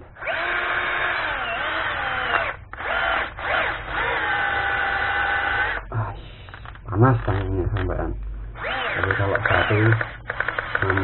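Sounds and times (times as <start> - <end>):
cordless drill motor whining: 0.2 - 7.4, 8.6 - 11.0.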